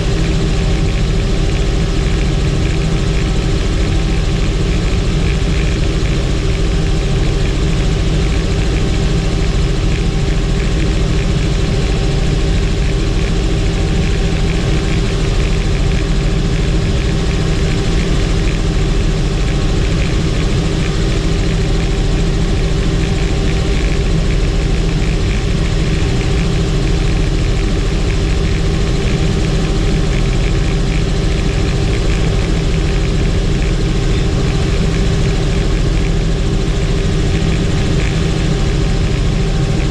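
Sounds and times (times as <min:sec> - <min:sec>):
helicopter turbine and rotors: 0:00.0 - 0:39.9.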